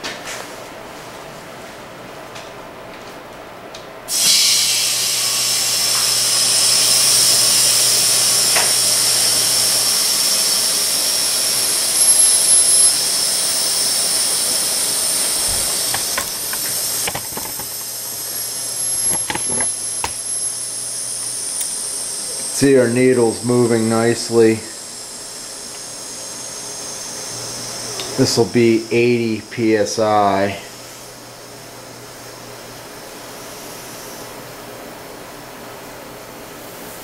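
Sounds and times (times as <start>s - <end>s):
compressed air hissing: 4.1s - 35.1s.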